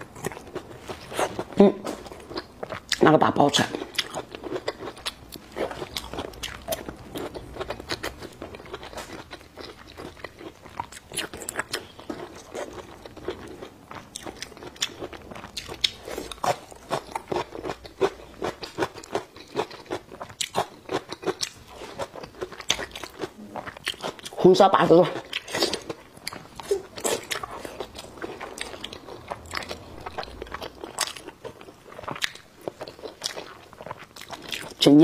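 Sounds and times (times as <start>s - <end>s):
person chewing food: 0.0s - 24.4s, 25.0s - 34.8s.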